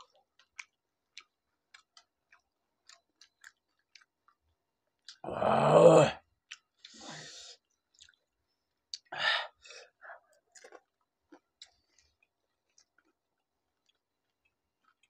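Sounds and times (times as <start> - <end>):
soft chewing clicks: 0.0 - 5.2, 6.2 - 7.0, 7.6 - 9.1, 10.2 - 15.0
crunching mouthful: 0.0 - 9.1, 10.2 - 15.0.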